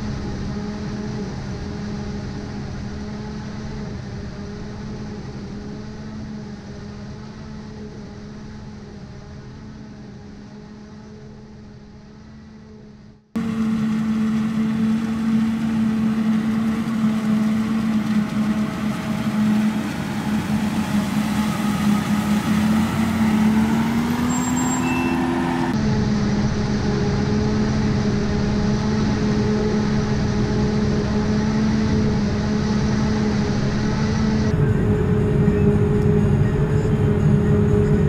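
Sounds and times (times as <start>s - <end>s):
harvester machine drone: 0.0s - 38.0s.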